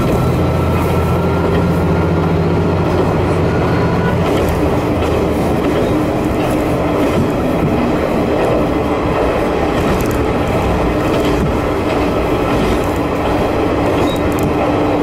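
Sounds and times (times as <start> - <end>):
train engine and wheels droning: 0.0 - 15.0.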